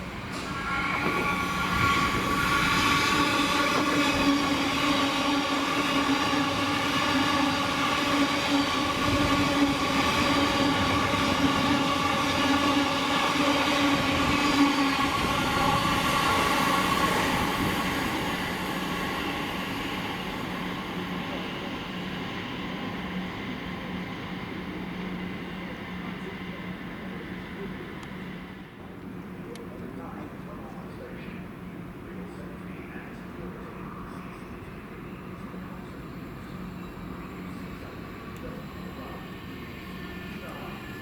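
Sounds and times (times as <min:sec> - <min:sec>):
train passing with whine: 0:00.0 - 0:41.0.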